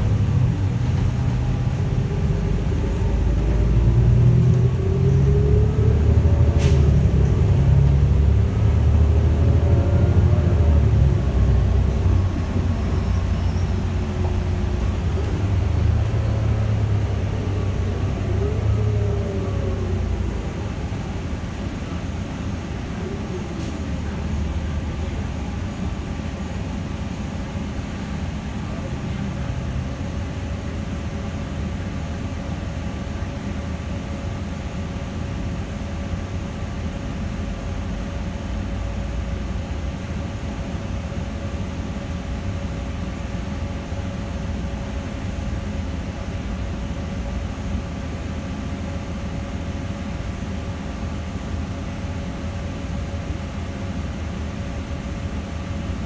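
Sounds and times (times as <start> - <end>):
bus engine rumble: 0.0 - 56.0
road noise: 0.0 - 56.0.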